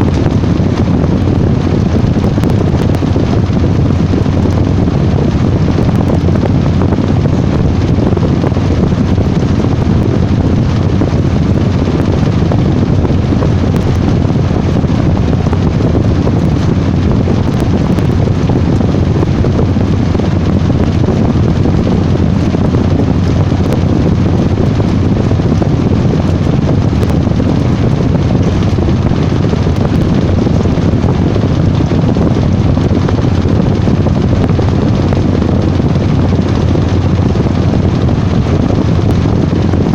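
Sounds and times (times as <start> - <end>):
washing machine rumbling: 0.0 - 39.9.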